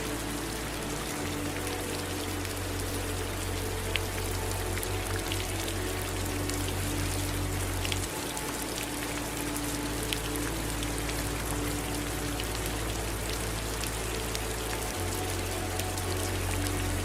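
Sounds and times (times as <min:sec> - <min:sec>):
low steady hum: 0:00.0 - 0:17.0
rain falling: 0:00.0 - 0:17.0.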